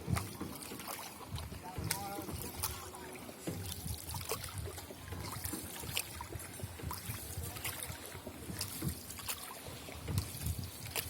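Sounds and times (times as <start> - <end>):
water splashing around oars: 0.0 - 11.0.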